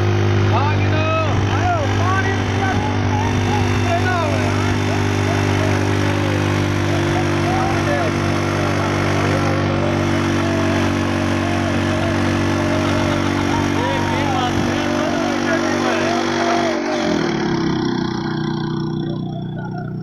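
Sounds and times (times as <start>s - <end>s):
motorcycle engine running steadily: 0.0s - 20.0s.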